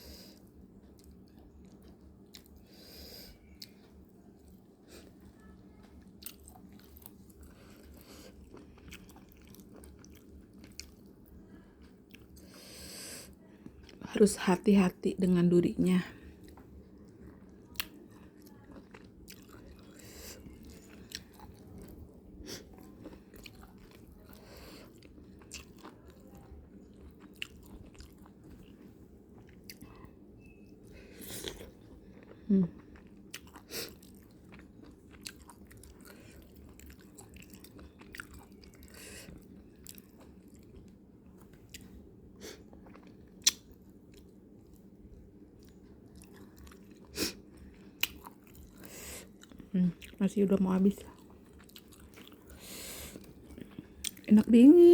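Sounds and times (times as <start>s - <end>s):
person chewing: 0.1s - 14.0s, 16.4s - 50.2s, 50.9s - 54.3s.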